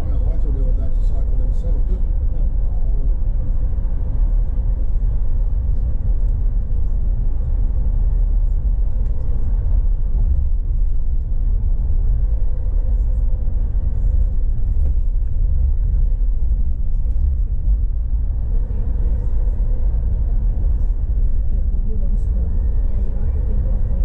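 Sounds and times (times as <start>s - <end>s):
bus motor and road rumble: 0.0s - 24.0s.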